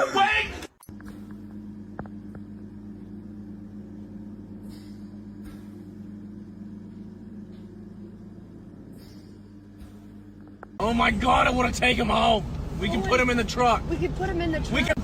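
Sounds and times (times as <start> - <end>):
vehicle engine idling: 0.9 - 15.0.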